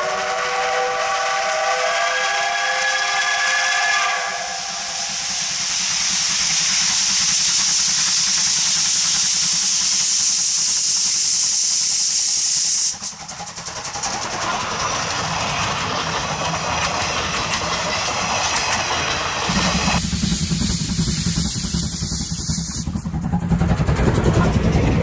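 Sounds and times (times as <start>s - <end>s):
loud hiss of steam venting: 0.0s - 23.2s
train wheels rumbling and clicking: 0.0s - 25.0s.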